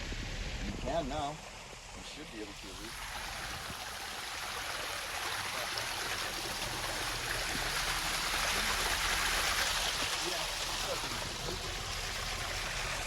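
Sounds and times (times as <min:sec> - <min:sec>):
water splashing over rocks: 0:00.0 - 0:13.0.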